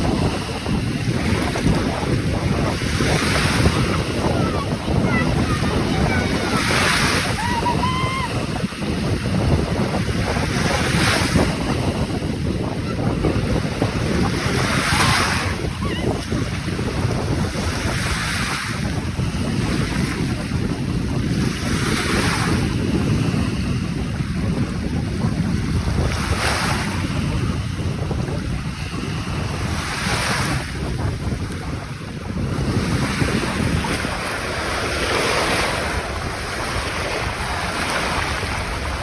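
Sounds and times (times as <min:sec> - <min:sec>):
waves breaking: 0:00.0 - 0:39.0
wind buffeting microphone: 0:00.0 - 0:39.0.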